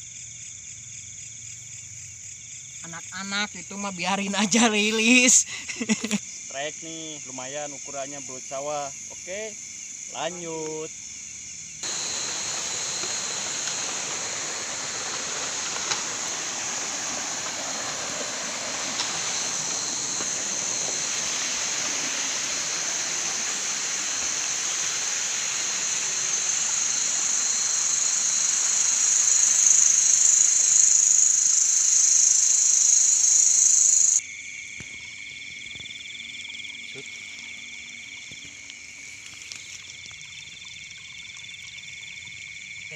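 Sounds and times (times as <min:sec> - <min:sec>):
night insects chorus: 0:00.0 - 0:42.9.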